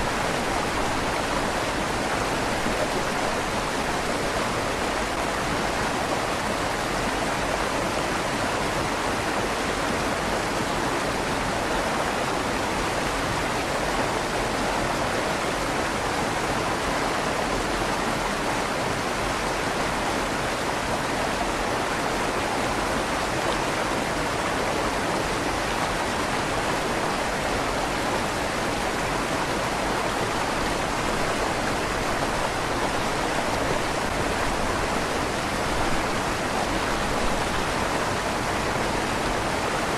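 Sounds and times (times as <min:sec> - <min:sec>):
river water rushing with echo: 0:00.0 - 0:39.9.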